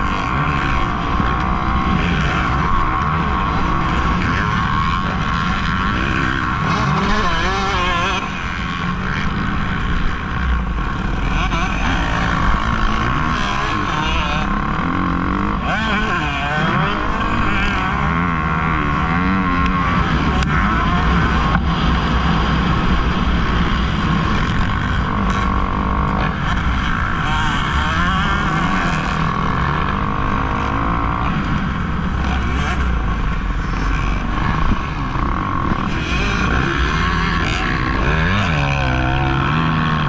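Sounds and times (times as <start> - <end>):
motocross bike engine revving: 0.0 - 40.0.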